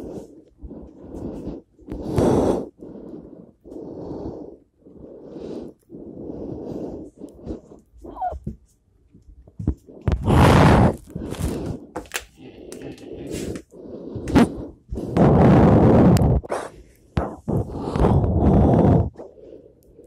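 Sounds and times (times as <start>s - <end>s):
person breathing heavily: 0.0s - 8.6s, 9.6s - 20.0s.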